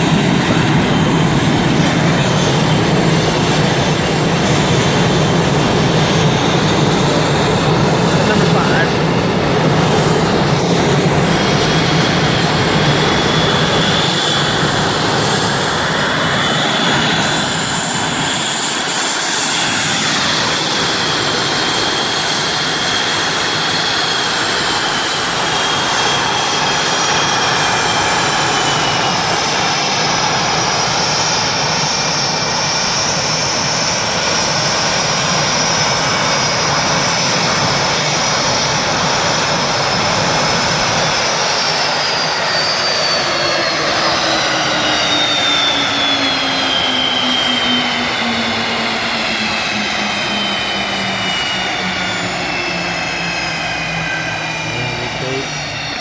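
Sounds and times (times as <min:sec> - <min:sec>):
aircraft engines running: 0:00.0 - 0:56.0
high-pitched engine whine: 0:00.0 - 0:56.0.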